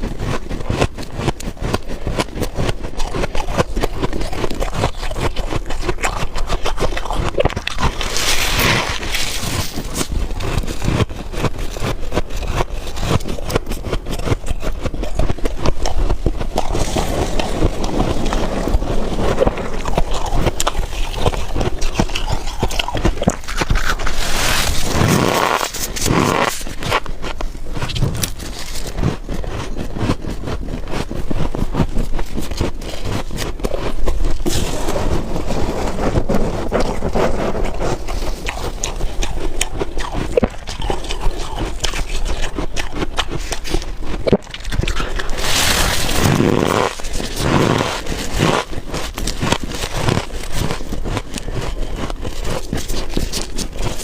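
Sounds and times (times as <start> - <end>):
frost being scraped and crunched: 0.0 - 54.0.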